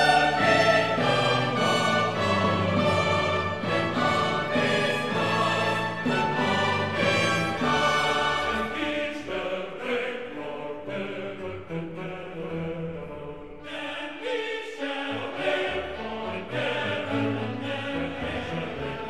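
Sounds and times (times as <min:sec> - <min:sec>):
choir-like background music: 0:00.0 - 0:19.0.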